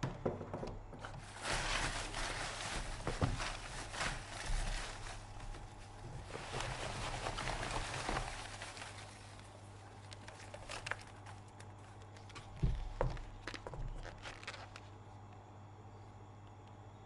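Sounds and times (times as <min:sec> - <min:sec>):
plastic packaging rustling: 0:01.0 - 0:15.0.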